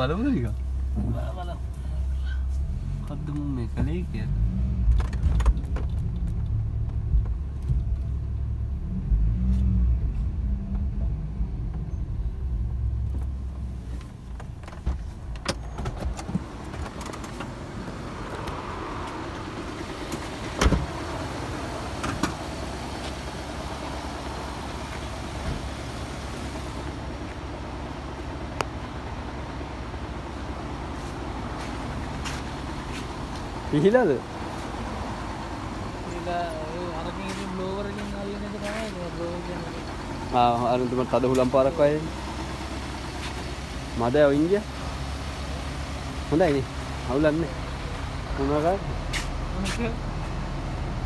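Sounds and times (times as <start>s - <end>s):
car rumbling: 0.0s - 51.0s.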